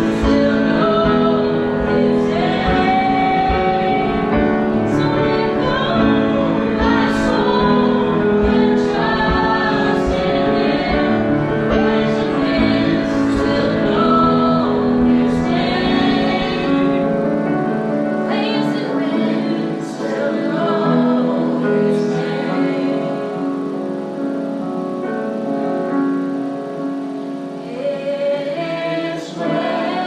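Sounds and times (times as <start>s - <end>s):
congregation singing gospel song: 0.0s - 25.4s, 27.2s - 30.0s.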